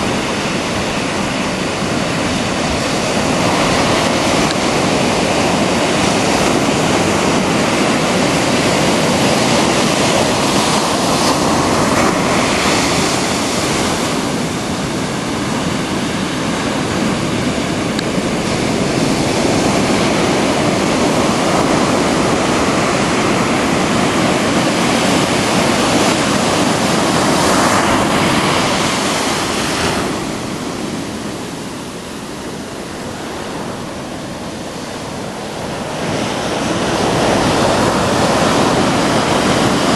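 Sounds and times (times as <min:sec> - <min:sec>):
ocean waves breaking on rocks: 0:00.0 - 0:39.9.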